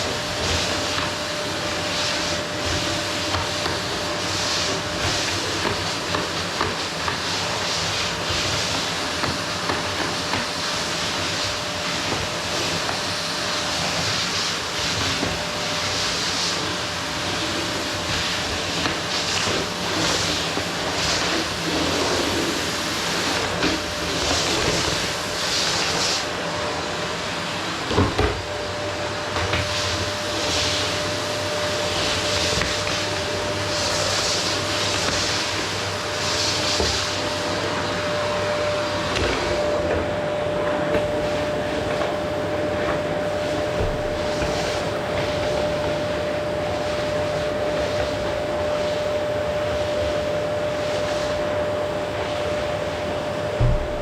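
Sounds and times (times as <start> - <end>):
vacuum cleaner on wooden floor: 0.0 - 54.0.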